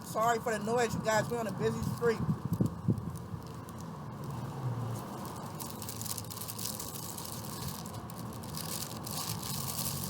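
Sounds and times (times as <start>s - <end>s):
busy street traffic: 0.0s - 10.0s
crackles near microphone: 1.0s - 10.0s.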